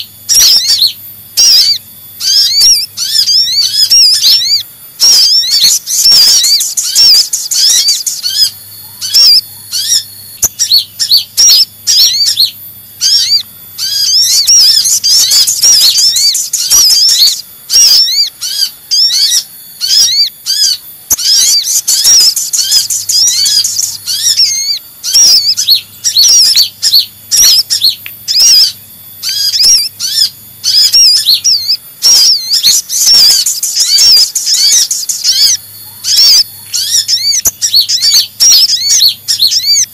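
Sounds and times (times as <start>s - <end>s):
spiderhunter calls: 0.0s - 39.9s
sunbird chirping and twittering: 0.0s - 39.9s.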